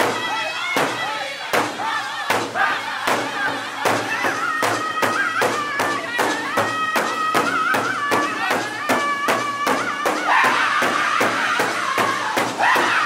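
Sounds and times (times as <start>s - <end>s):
large drum beaten in rhythm: 0.0s - 13.0s
men singing in unison: 0.0s - 13.0s.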